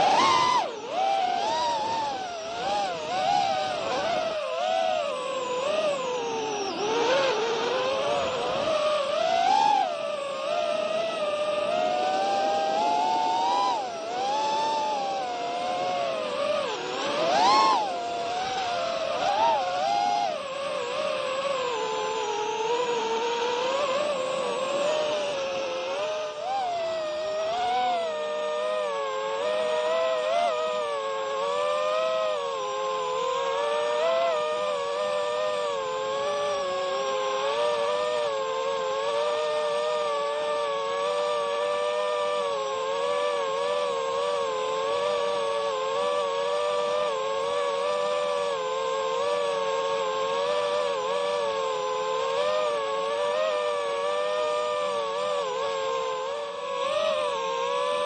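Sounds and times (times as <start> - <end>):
model engine buzzing whine: 0.0 - 58.0.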